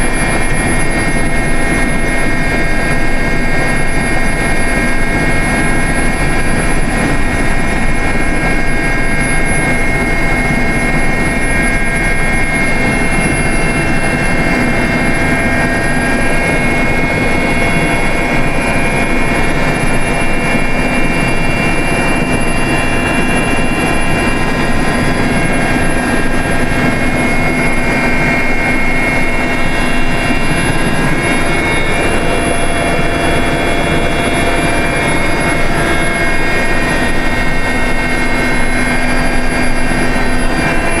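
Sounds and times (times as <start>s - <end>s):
helicopter engine and rotor drone: 0.0s - 41.0s
high whining tones: 0.0s - 41.0s.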